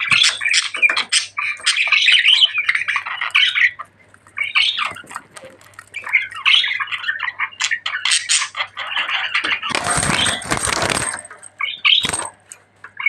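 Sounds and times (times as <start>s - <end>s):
budgerigars warbling and chattering: 0.0s - 10.5s.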